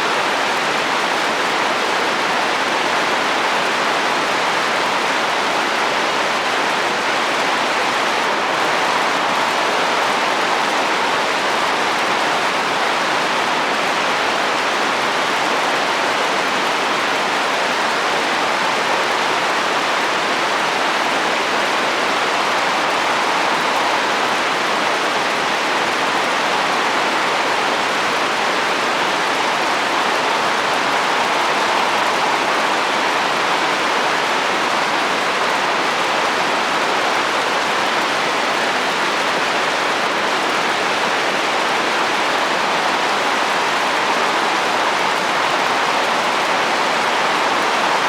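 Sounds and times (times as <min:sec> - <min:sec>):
rain on a roof: 0:00.0 - 0:48.0.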